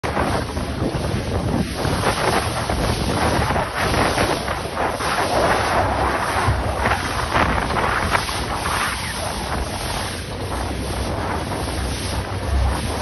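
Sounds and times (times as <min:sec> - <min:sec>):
choppy water splashing: 0:00.0 - 0:13.0
wind buffeting microphone: 0:00.0 - 0:13.0.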